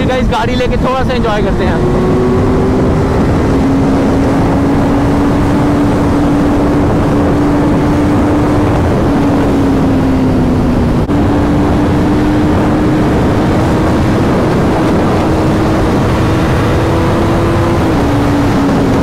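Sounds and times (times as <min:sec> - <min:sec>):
motorcycle engine running hard: 0:00.0 - 0:19.0
wind rushing on microphone: 0:00.0 - 0:19.0.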